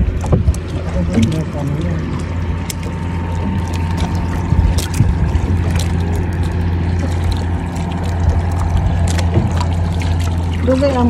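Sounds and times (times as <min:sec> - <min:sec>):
small boat engine droning: 0:00.0 - 0:11.0
water splashing against hull: 0:00.0 - 0:11.0.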